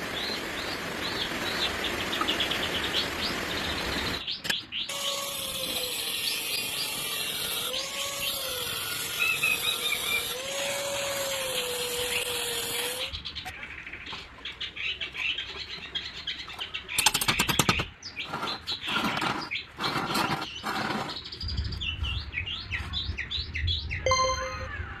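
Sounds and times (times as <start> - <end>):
birds chirping: 0.0 - 10.4, 11.2 - 25.0.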